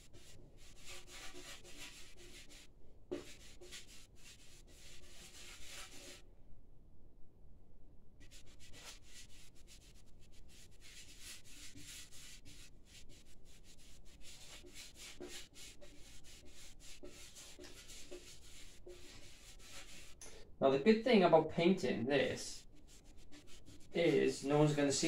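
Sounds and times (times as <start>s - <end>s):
paintbrush strokes on metal: 0.0s - 6.2s, 8.2s - 20.2s, 21.6s - 25.0s.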